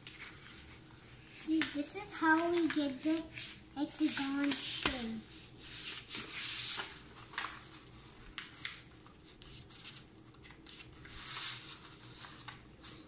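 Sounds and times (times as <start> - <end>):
paper being folded: 0.0 - 13.0.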